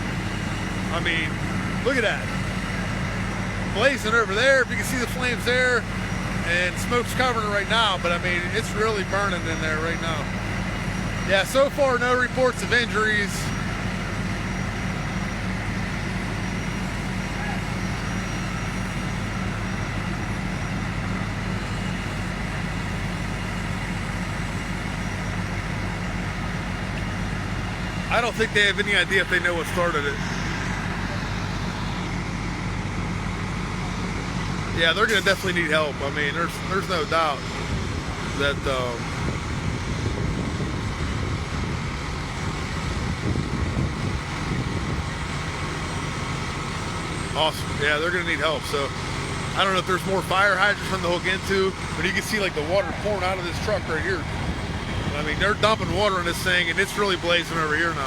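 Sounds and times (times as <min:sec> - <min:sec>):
large truck engine running: 0:00.0 - 0:58.0.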